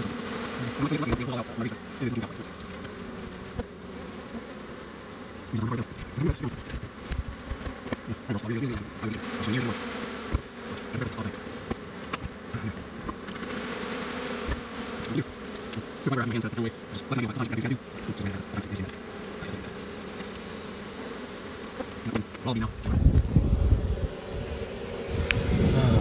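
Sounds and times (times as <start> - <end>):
bee colony buzzing: 0.0 - 26.0
bees flying past: 0.0 - 26.0.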